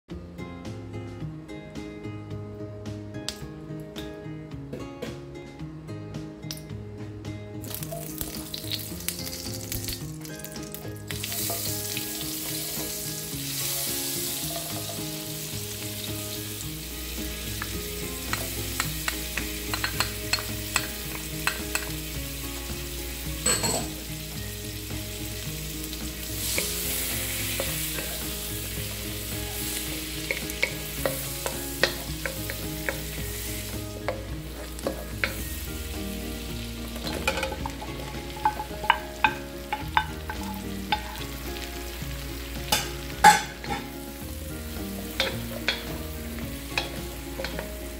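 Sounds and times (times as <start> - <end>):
garlic sizzling in oil: 7.6 - 47.9.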